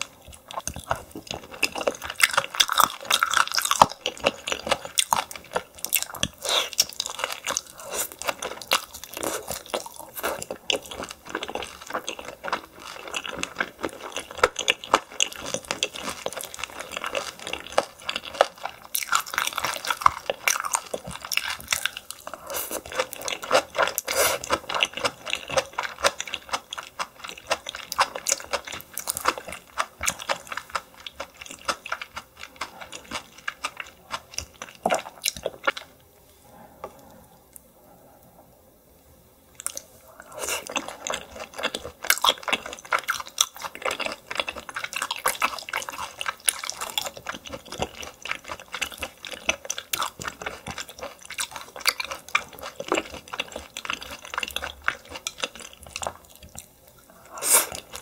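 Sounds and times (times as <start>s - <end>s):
chewing and crunching: 0.0s - 36.0s, 39.6s - 58.0s.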